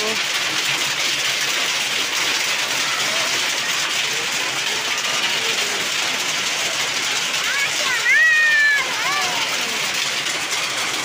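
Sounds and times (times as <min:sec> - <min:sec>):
rain and hail on tin: 0:00.0 - 0:11.0.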